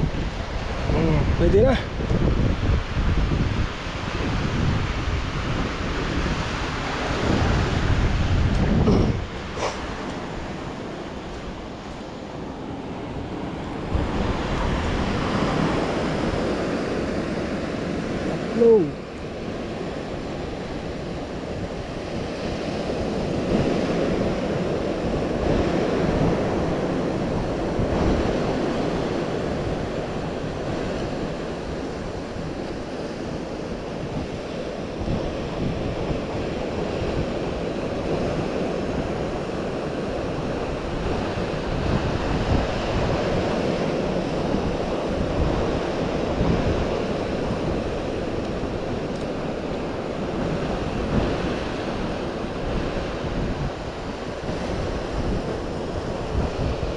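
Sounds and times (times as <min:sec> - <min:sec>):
surf on rocky shore: 0:00.0 - 0:56.9
wind on microphone: 0:00.0 - 0:56.9.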